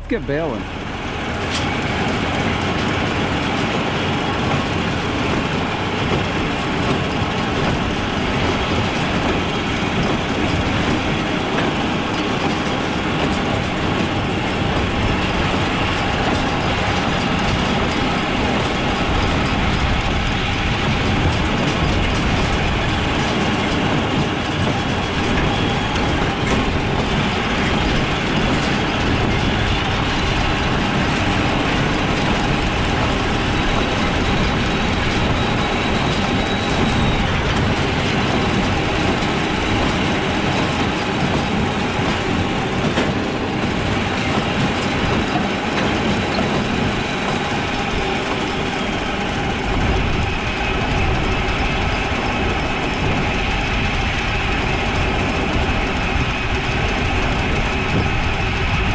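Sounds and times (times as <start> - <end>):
baler mechanical clatter: 0.0 - 58.9.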